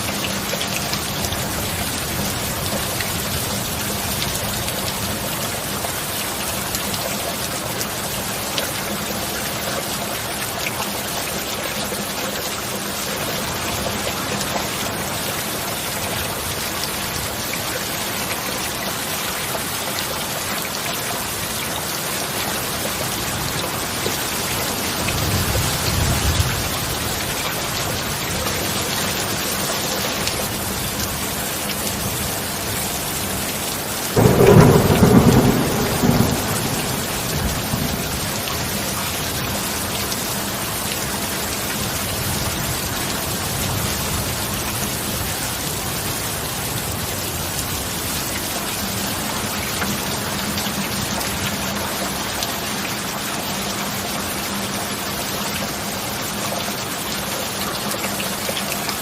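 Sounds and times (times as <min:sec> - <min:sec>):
rain pouring down: 0:00.0 - 0:59.0.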